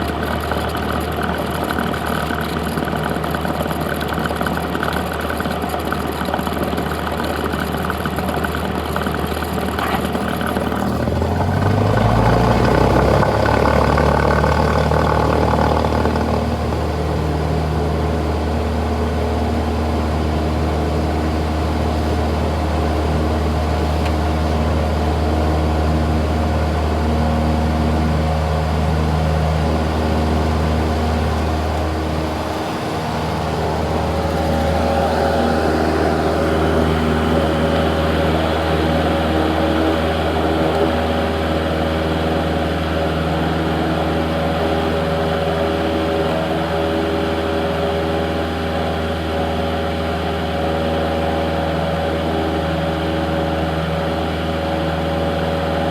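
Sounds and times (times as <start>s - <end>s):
airplane engine and propeller droning: 0.0s - 55.9s.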